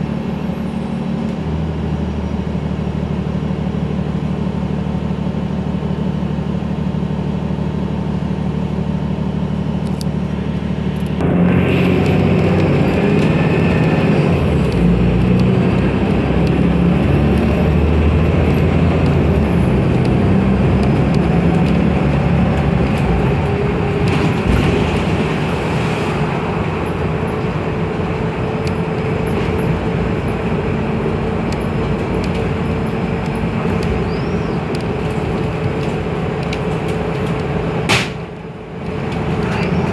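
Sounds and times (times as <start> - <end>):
bus diesel engine: 0.0 - 39.9
road noise: 0.0 - 39.9.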